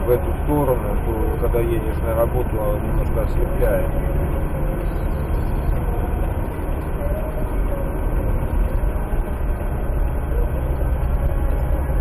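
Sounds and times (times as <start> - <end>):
car engine and tyre noise: 0.0 - 12.0
faint wavering whine: 0.0 - 12.0.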